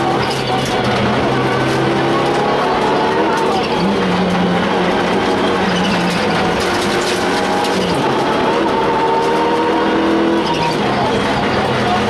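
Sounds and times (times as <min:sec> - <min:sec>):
turbocharged engine accelerating: 0:00.0 - 0:12.0.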